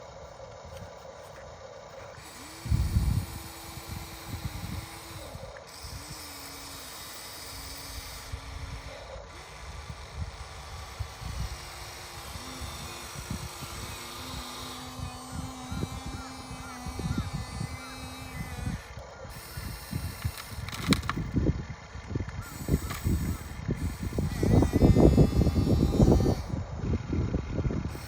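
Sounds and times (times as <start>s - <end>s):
toy excavator motor whining: 0.0s - 28.0s.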